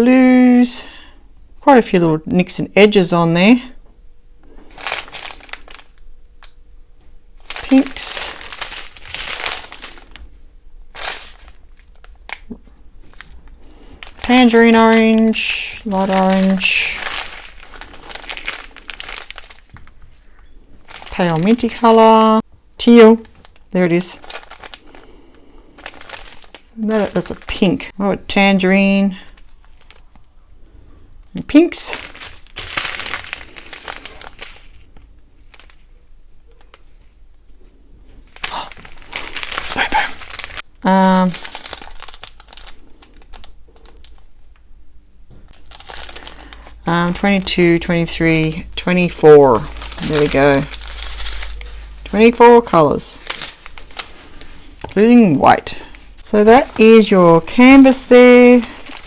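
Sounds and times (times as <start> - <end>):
plastic bags crinkling: 4.4 - 59.0.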